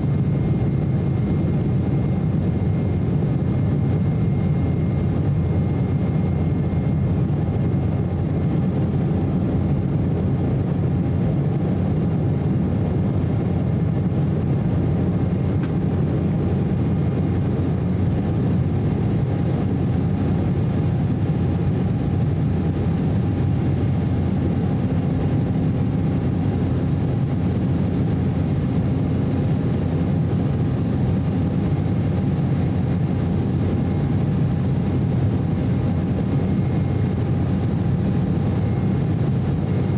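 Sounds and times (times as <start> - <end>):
faint steady whine: 0.0 - 39.9
jet engine cabin rumble: 0.0 - 39.9.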